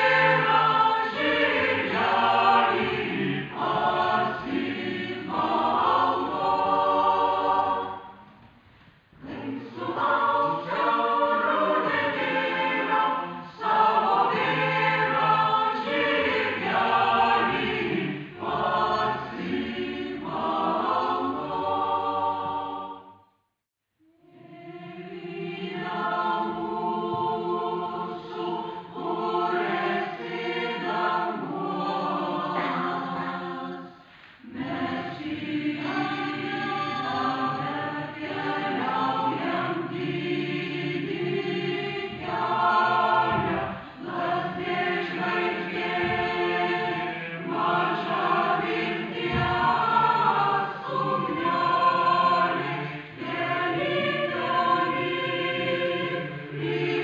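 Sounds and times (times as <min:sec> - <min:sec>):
mixed choir singing: 0:00.0 - 0:08.5, 0:09.1 - 0:23.3, 0:24.2 - 0:57.0.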